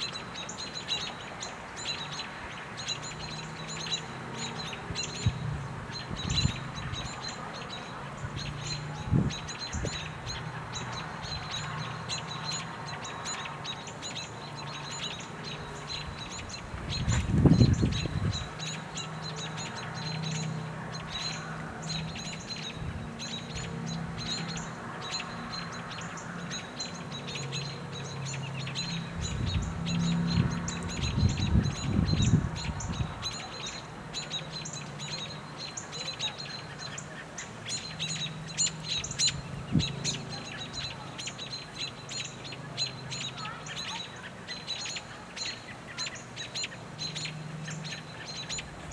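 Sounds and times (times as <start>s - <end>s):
small birds chipping: 0.0s - 48.9s.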